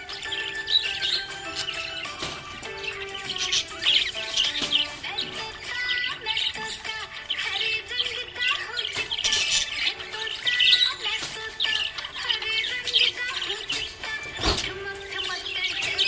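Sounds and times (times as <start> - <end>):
parrot squawks: 0.0 - 13.8
background music with held notes: 0.0 - 16.0
parrots chirping and twittering: 0.0 - 16.0.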